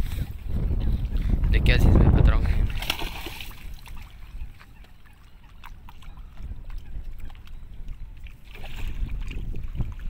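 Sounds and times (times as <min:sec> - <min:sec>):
low wind rumble on microphone: 0:00.0 - 0:10.0
water sloshing against rocks: 0:01.2 - 0:10.0.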